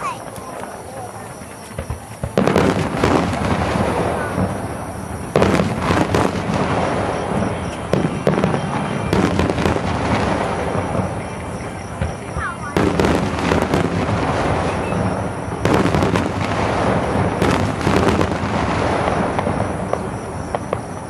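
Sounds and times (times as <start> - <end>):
firework crackling: 0.0 - 21.0.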